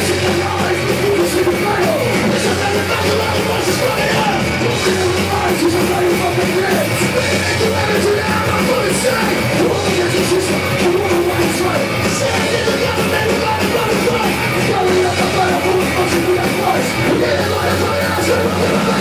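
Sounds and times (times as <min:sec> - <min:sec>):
punk band playing live: 0:00.0 - 0:19.0.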